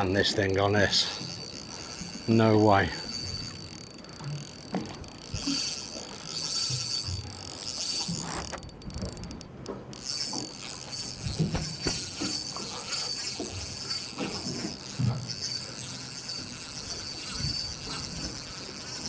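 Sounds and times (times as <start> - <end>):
fishing reel ratcheting and buzzing: 0.0 - 19.0.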